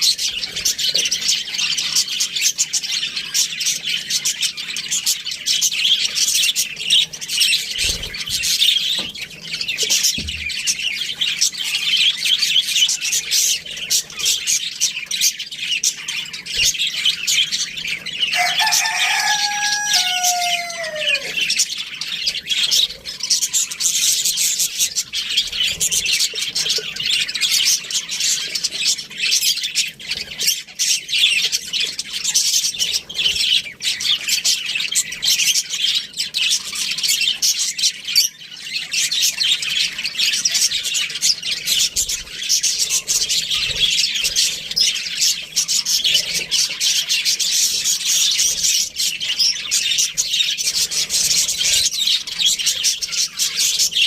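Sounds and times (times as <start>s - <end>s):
budgerigars chirping and chattering: 0.0s - 54.0s.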